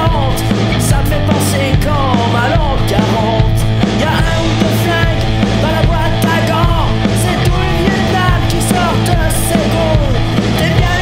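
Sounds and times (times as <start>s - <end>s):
loud rock music with singing: 0.0s - 11.0s
steady drumbeat: 0.0s - 11.0s.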